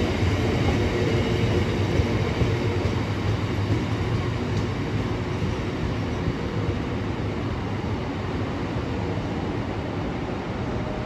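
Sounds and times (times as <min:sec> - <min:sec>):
freight train wagons rumbling: 0:00.0 - 0:09.0.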